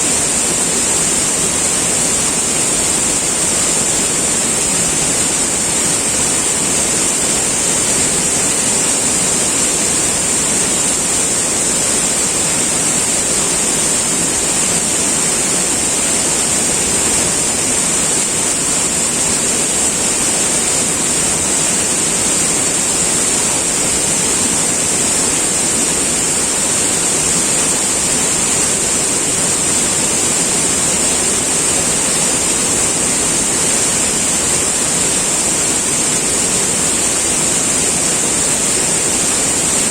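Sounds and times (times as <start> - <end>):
high-pitched hiss: 0.0 - 39.9
river water rushing: 0.0 - 39.9.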